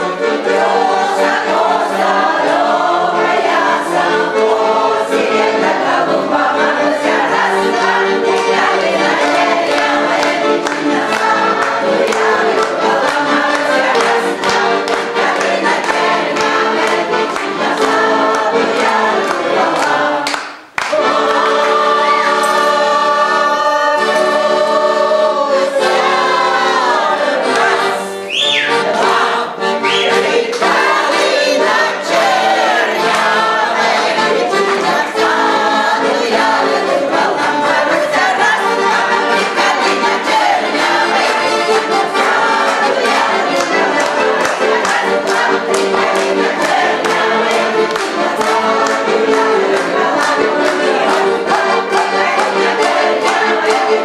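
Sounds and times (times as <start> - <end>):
choir singing sustained chords: 0.0 - 20.3, 20.9 - 54.0.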